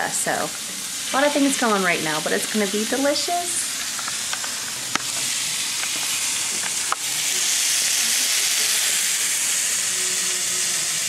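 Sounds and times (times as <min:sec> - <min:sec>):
peppers sizzling in a pan: 0:00.0 - 0:11.0.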